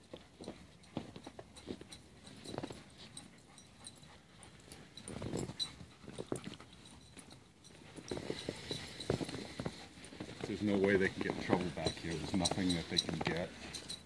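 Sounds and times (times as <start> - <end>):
dog noises: 0.1 - 14.0.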